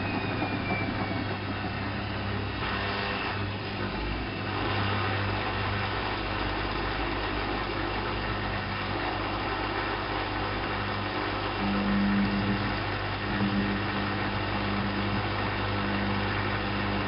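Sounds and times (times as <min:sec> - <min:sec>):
loud low hum: 0:00.0 - 0:17.0
washing machine drum whirring: 0:00.0 - 0:17.0.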